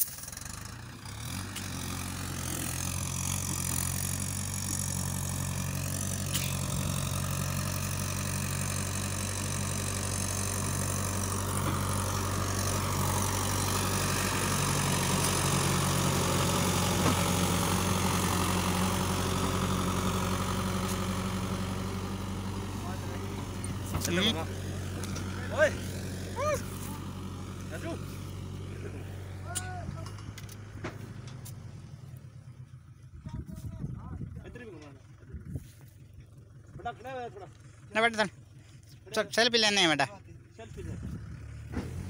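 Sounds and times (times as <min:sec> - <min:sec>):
tractor diesel engine idling: 0:00.0 - 0:42.0.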